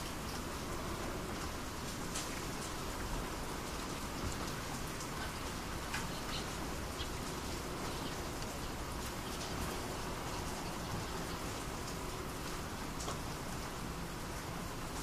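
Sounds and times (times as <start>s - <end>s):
raindrops ticking on a surface: 0.0s - 15.0s
steady rainfall: 0.0s - 15.0s.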